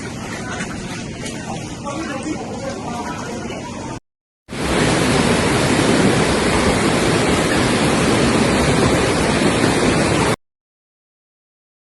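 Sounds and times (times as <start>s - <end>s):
torrential rain pouring: 0.0s - 10.4s.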